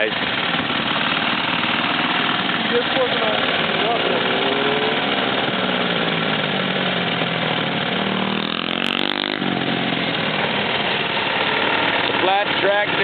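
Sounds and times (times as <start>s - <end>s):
small engines running: 0.0s - 13.0s.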